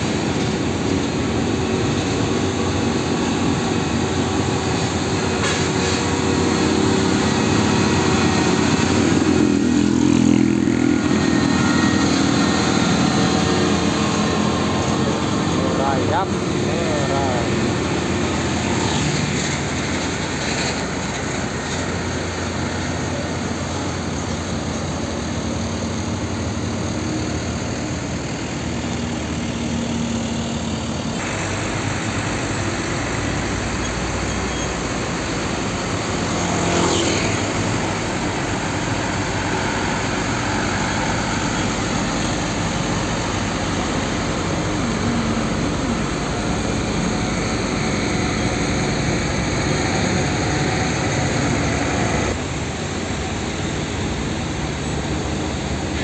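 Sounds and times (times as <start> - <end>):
diesel trucks passing: 0.0 - 56.0
general traffic: 0.0 - 56.0
tyres rolling on asphalt: 0.0 - 56.0.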